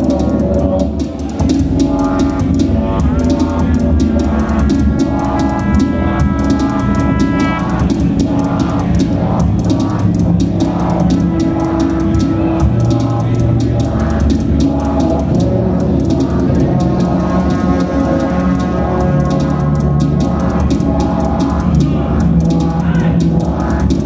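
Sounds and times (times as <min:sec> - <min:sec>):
fast hi-hat ticks: 0:00.0 - 0:24.0
low drone: 0:00.0 - 0:24.0
sequenced drum pattern: 0:00.0 - 0:24.0.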